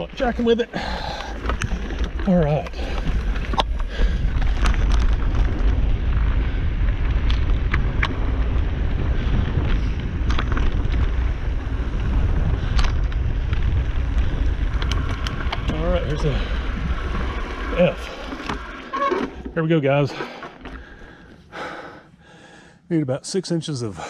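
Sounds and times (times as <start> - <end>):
heavy wind rumble on microphone: 0.0 - 20.0
bike clicks and rattles: 0.0 - 21.4.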